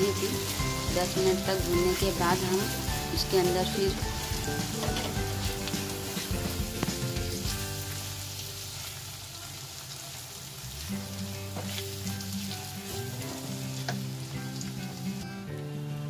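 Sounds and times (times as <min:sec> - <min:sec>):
masala paste sizzling in hot oil: 0:00.0 - 0:15.5.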